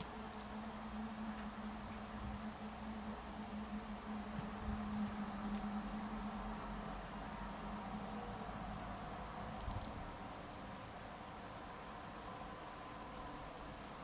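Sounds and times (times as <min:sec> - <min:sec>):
low steady hum: 0:00.0 - 0:14.0
songbird chirping: 0:00.0 - 0:14.0.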